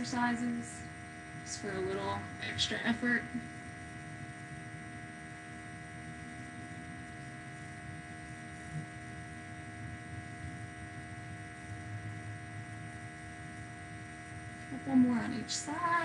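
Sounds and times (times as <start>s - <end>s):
faint low rumble: 0.0s - 16.0s
steady electrical hum: 0.0s - 16.0s.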